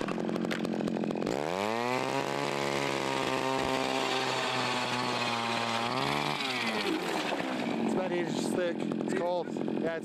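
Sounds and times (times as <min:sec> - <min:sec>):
ice auger engine drilling: 0:00.0 - 0:10.0.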